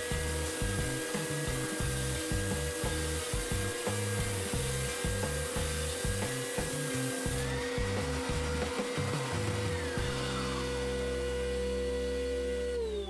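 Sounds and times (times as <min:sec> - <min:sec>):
sander motor whine: 0:00.0 - 0:13.0
wood sanding hiss: 0:00.0 - 0:13.0.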